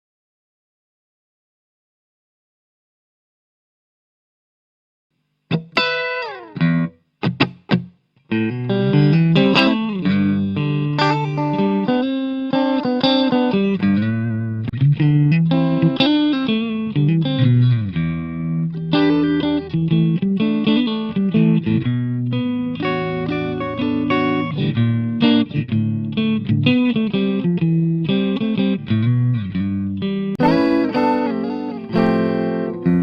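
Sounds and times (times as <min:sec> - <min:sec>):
guitar playing: 0:05.5 - 0:33.0.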